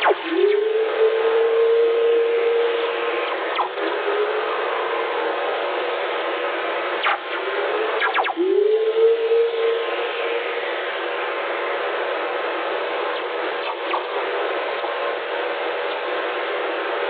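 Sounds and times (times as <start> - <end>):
radio static hiss: 0.0 - 17.0
rising radio tones: 0.0 - 17.0.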